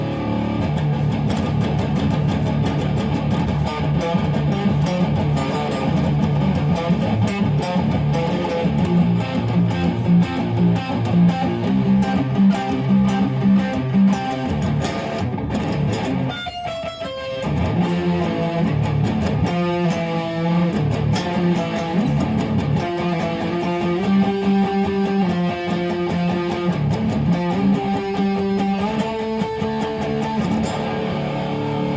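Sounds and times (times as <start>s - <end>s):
electric guitar through amplifier: 0.0s - 31.9s.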